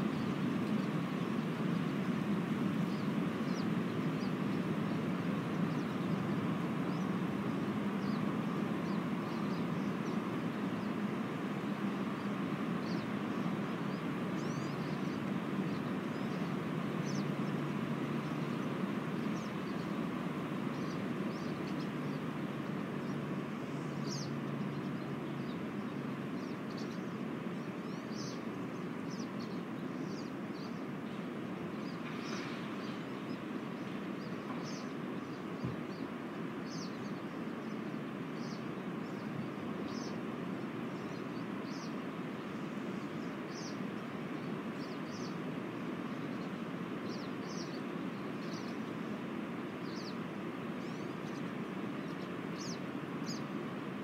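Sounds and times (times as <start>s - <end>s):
wind rushing through trees: 0.0s - 54.0s.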